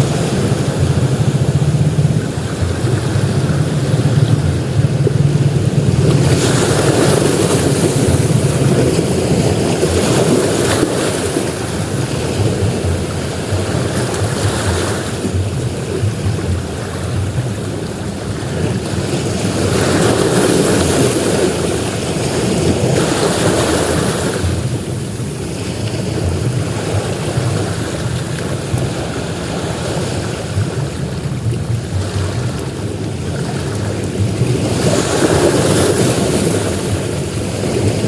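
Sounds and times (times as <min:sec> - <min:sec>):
sea waves breaking on beach: 0:00.0 - 0:38.0.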